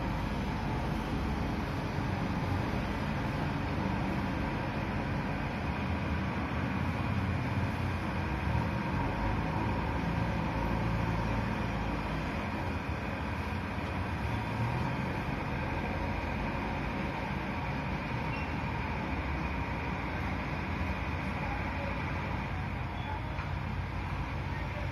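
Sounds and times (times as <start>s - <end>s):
distant diesel engines running: 0.0s - 24.9s.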